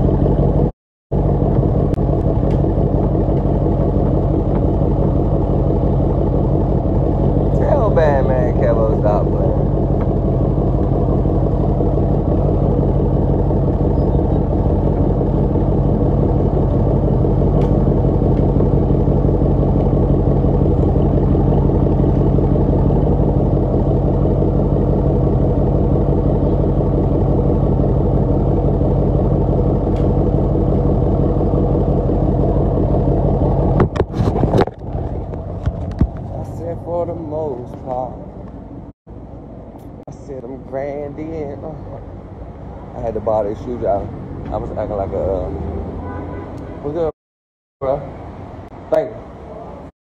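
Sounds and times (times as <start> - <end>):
car engine droning: 0.0 - 47.2, 47.8 - 49.9.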